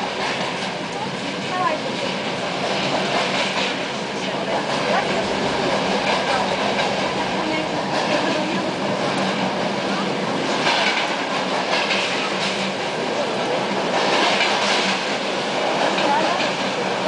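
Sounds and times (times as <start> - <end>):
freight train rushing past: 0.0 - 17.0
train running noise: 0.0 - 17.0
wheels clacking over rail joints: 0.0 - 17.0.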